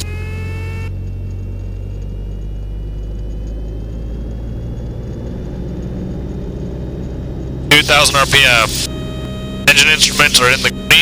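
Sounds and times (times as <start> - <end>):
faint rising whine: 0.0 - 11.0
propeller aircraft engine running: 0.0 - 11.0.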